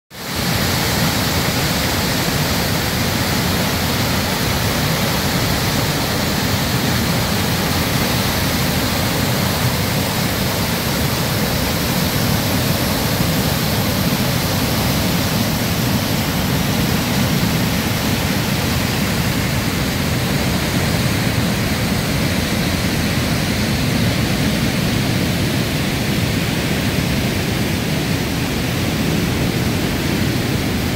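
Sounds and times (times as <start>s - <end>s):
water rushing through canyon: 0.1s - 30.9s.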